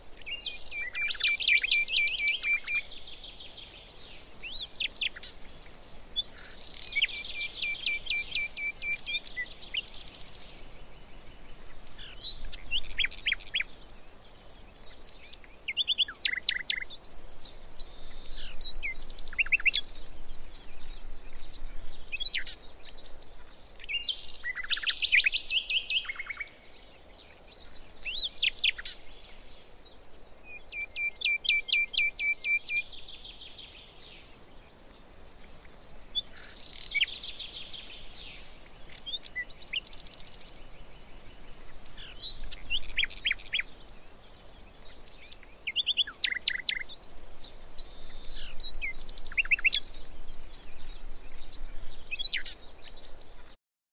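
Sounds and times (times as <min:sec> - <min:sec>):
songbirds singing and trilling: 0:00.0 - 0:53.6.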